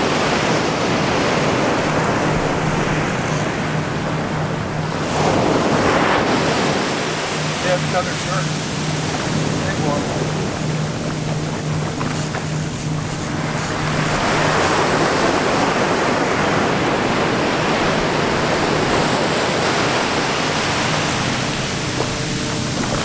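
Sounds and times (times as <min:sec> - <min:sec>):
ocean surf breaking on beach: 0:00.0 - 0:23.0.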